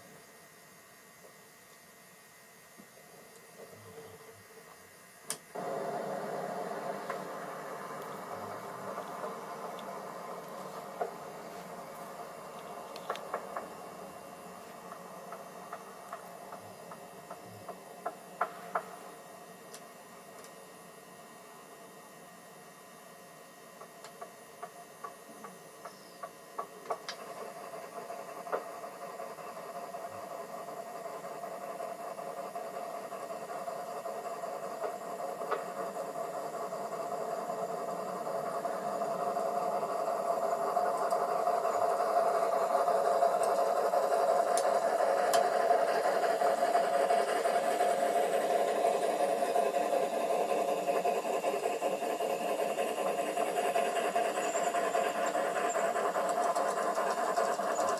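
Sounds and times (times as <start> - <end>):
model train humming on track: 0.0 - 57.9.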